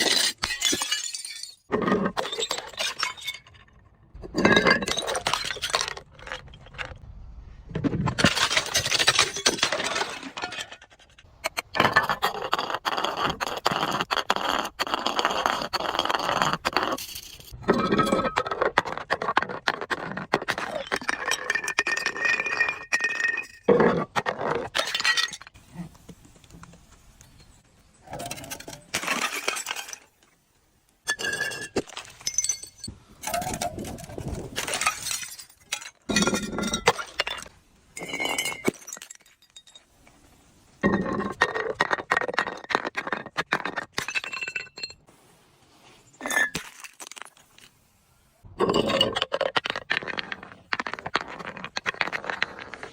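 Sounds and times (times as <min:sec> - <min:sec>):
glass bottles crushing and breaking: 0:00.0 - 0:07.0, 0:08.1 - 0:18.7, 0:20.2 - 0:25.6, 0:28.2 - 0:30.2, 0:31.0 - 0:40.2, 0:40.8 - 0:45.0, 0:46.2 - 0:47.6, 0:48.6 - 0:52.9.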